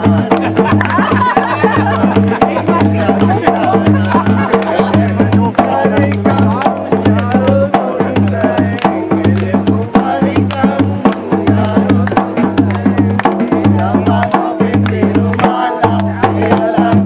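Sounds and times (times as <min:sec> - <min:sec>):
music with repeating bass line: 0:00.0 - 0:17.0
rapid sharp percussion hits: 0:00.0 - 0:17.0.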